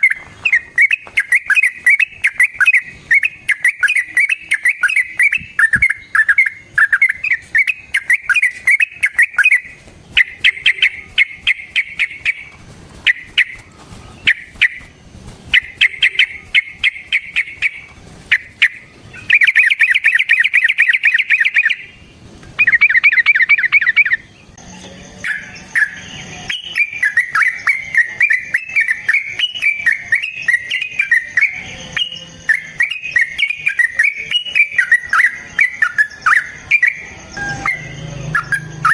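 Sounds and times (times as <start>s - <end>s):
bulbul chattering calls: 0.0s - 14.9s, 15.5s - 22.0s, 22.6s - 24.3s, 25.2s - 38.9s
bird song rising and falling: 0.0s - 38.9s.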